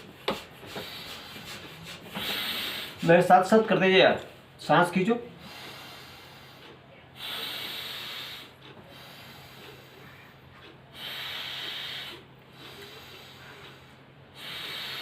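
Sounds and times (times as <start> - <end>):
forceful breathing through nose: 0.0 - 3.2, 5.4 - 10.3, 10.9 - 15.0.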